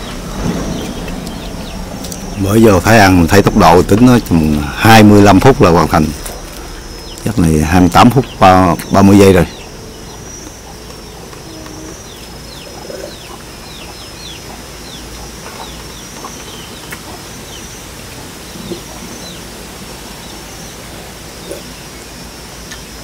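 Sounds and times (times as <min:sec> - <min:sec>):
high insect buzz: 0:00.0 - 0:23.0
small birds chirping: 0:00.0 - 0:23.0.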